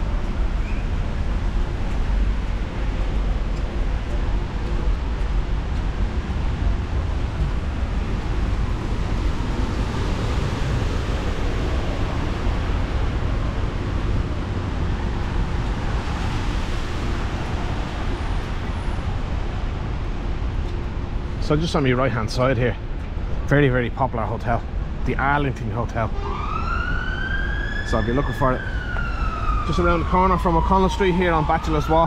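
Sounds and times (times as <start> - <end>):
city road traffic: 0.0 - 32.0
wind rumble on microphone: 0.0 - 32.0.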